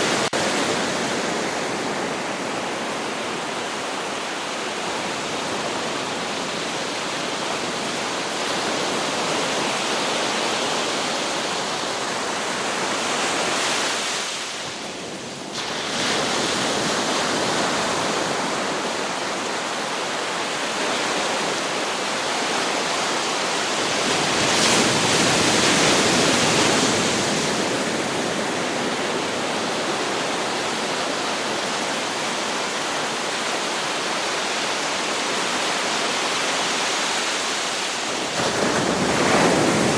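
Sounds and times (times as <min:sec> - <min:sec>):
ocean waves on beach: 0:00.0 - 0:39.9.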